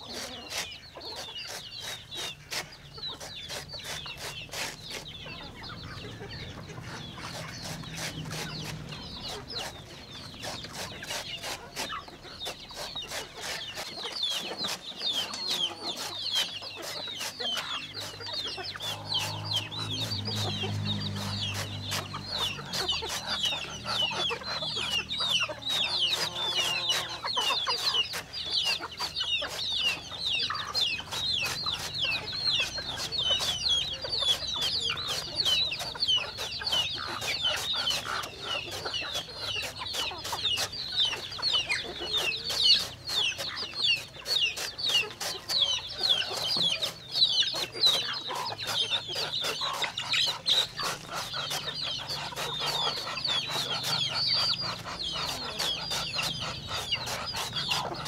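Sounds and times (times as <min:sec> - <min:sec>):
chickens chirping: 0:00.0 - 0:58.0.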